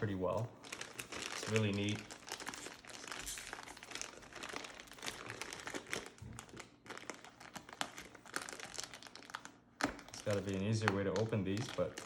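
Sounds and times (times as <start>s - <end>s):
packaging crinkling: 0.3s - 12.0s.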